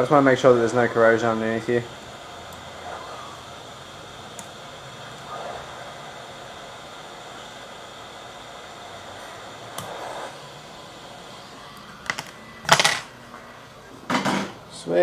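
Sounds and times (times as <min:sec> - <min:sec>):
hot air station blowing: 0:00.0 - 0:15.0.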